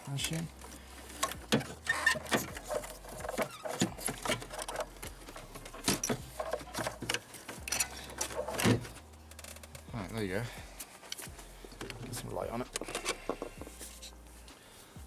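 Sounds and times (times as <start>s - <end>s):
hands handling metal parts: 0.2s - 14.6s.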